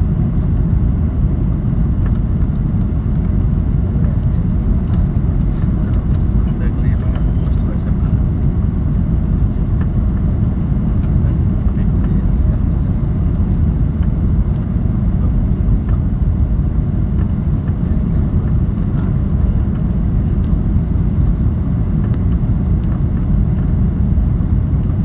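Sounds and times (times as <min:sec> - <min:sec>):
airliner engine rumble in cabin: 0:00.0 - 0:25.0.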